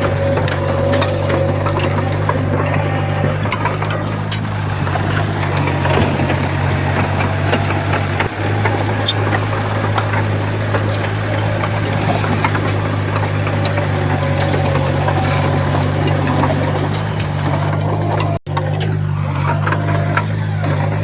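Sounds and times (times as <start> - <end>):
clanks and knocks: 0.0 - 21.0
heavy diesel engine running: 0.0 - 21.0.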